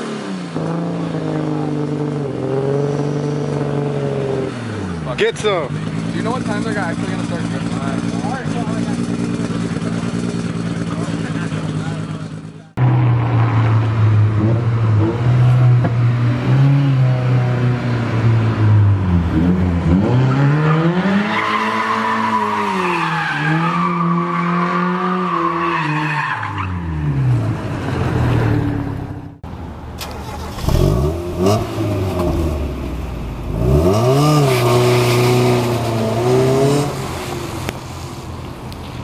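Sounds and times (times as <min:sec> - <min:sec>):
another car engine revving: 0:00.0 - 0:29.4, 0:30.0 - 0:39.0
car engine revving: 0:00.0 - 0:29.4, 0:30.0 - 0:39.0.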